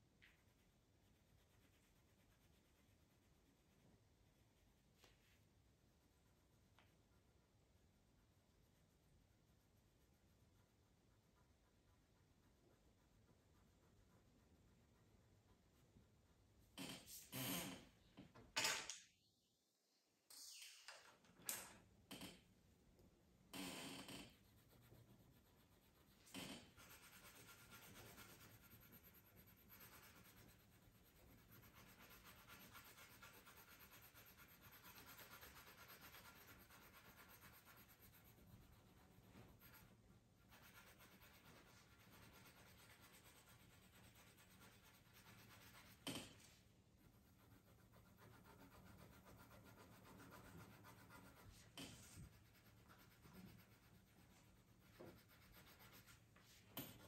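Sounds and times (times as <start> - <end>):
colored pencil rubbing on paper: 0.2 - 17.4, 23.9 - 57.0.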